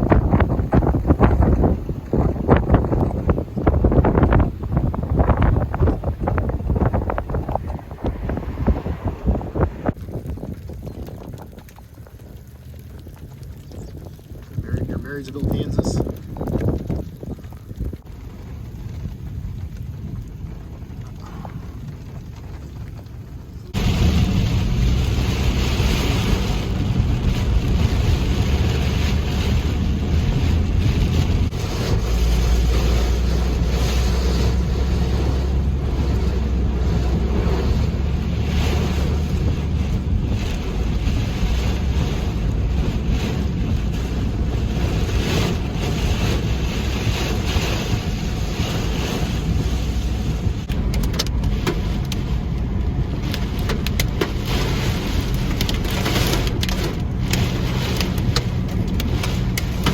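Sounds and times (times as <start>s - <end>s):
loud wind: 0.0s - 22.3s, 23.3s - 59.9s
deep low rumble: 0.0s - 59.9s
heavy rain on vehicle: 0.0s - 59.9s.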